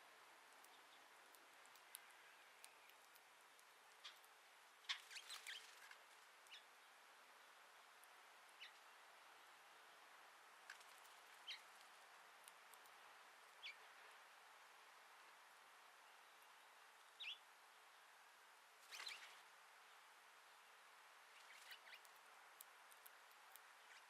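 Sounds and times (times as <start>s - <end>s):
background hiss: 0.0s - 24.0s
small birds chirping: 0.4s - 10.0s, 10.6s - 18.2s, 18.8s - 24.0s.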